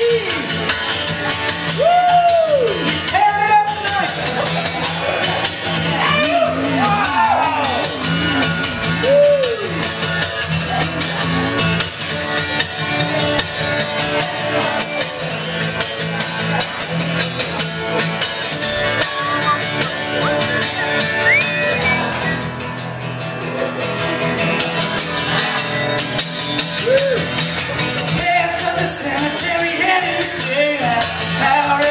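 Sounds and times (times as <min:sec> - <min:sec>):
acoustic guitar strummed: 0:00.0 - 0:31.9.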